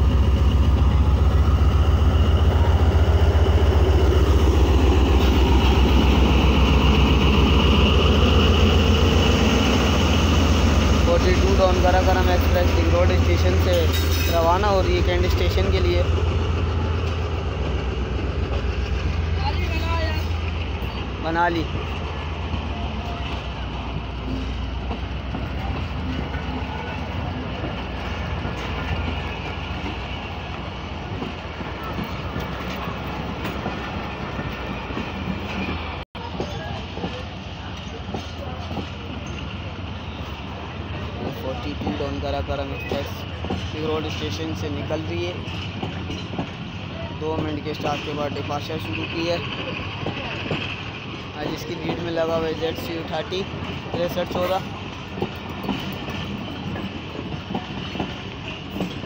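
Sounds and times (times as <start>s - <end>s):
locomotive engine running: 0.0s - 59.0s
train wheels rumbling on rails: 0.0s - 59.0s.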